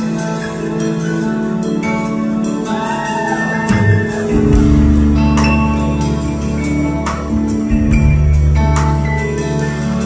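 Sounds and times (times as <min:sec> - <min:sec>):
bass: 0:00.0 - 0:10.0
drums: 0:00.0 - 0:10.0
electric guitar: 0:00.0 - 0:10.0.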